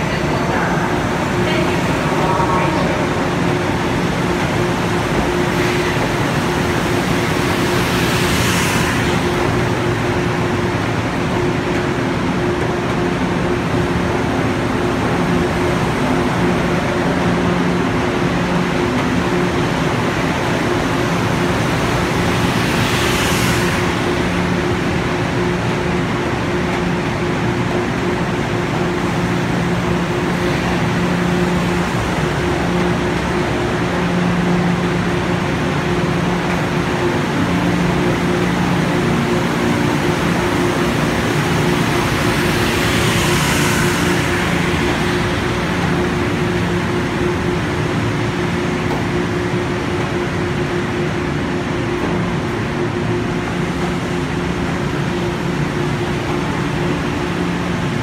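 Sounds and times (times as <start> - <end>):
electric train humming: 0.0 - 58.0.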